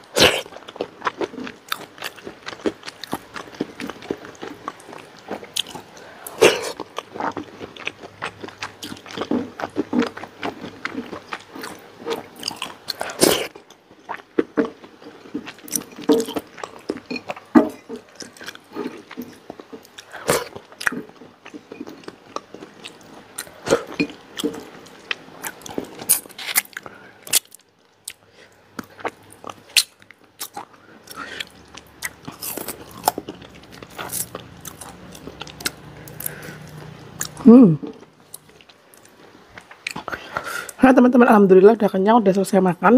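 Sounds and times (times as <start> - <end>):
person chewing and biting food: 0.0 - 40.8.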